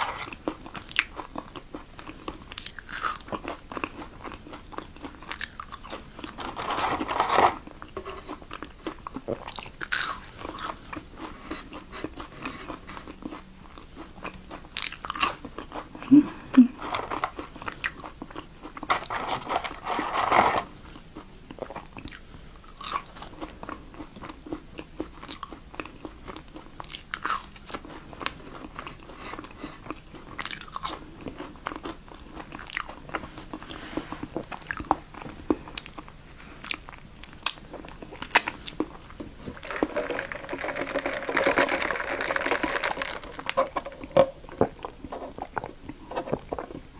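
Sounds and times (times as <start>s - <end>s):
crunchy chewing: 0.0s - 16.1s, 16.8s - 46.9s.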